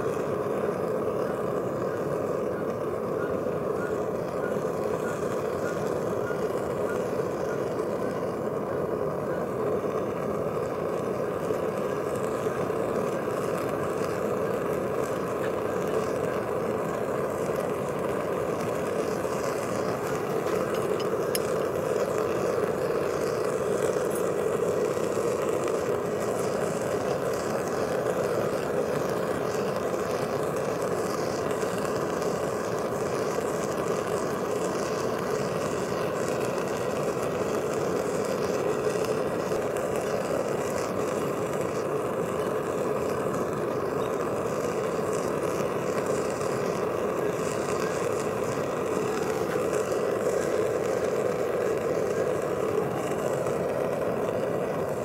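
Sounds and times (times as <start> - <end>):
gas burner rushing: 0.0 - 55.0.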